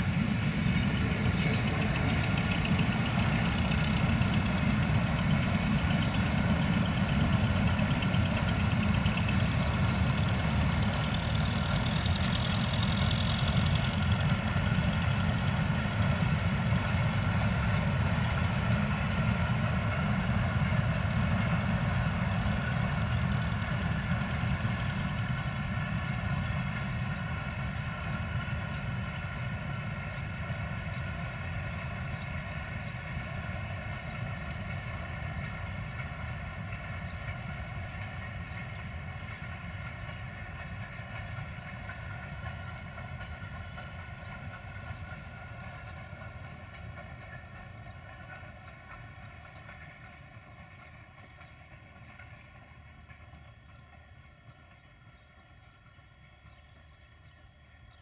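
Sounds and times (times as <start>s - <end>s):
freight wagons rumbling on track: 0.0s - 58.0s.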